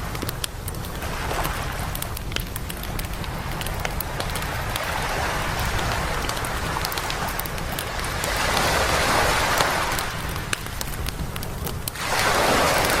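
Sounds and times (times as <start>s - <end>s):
campfire crackling: 0.0s - 13.0s
sea waves washing onto beach: 0.0s - 13.0s.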